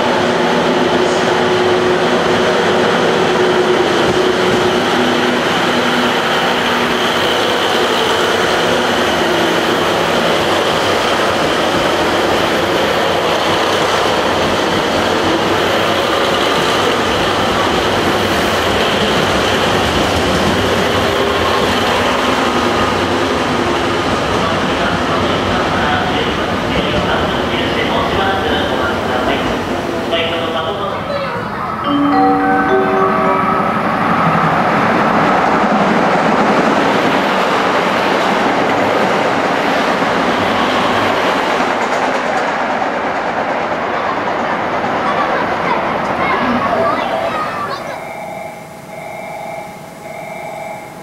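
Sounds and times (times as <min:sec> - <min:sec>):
diesel train engines running: 0:00.0 - 0:51.0.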